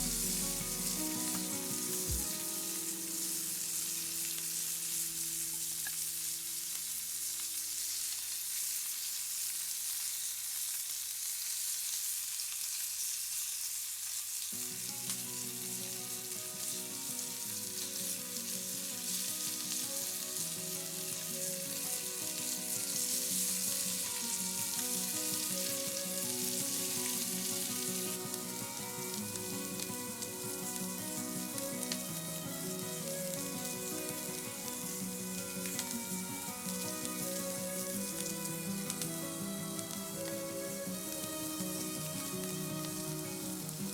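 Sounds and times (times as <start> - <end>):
soft background music: 0.0 - 6.8, 14.6 - 43.9
meat sizzling in a frying pan: 0.0 - 43.9.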